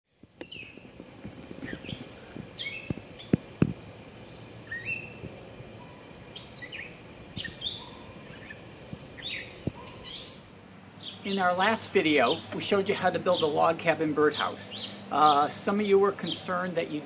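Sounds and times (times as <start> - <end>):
small songbirds chirping: 0.1 - 17.0.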